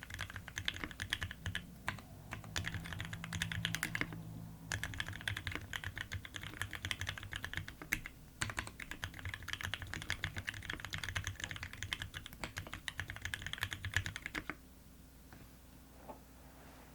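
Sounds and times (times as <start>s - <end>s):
mechanical keyboard typing: 0.0s - 14.6s.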